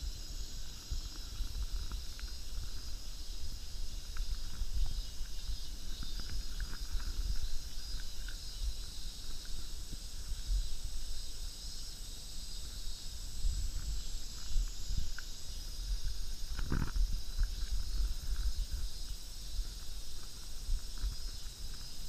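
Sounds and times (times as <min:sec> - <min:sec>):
high-pitched hiss: 0:00.0 - 0:22.0
wind rumble on microphone: 0:00.0 - 0:22.0
faint ticks: 0:00.2 - 0:10.7, 0:13.4 - 0:22.0.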